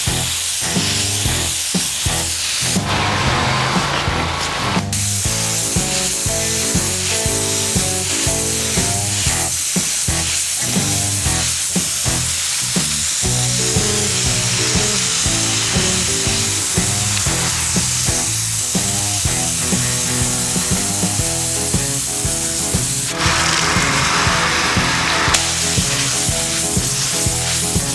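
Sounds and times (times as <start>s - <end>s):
background music with steady beat: 0.0s - 12.4s, 13.2s - 27.9s
pressure-washer spray on concrete: 0.0s - 27.9s.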